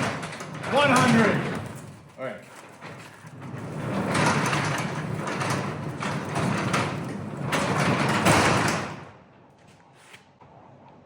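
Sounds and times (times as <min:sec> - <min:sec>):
garage door rolling rumble: 0:00.0 - 0:09.3.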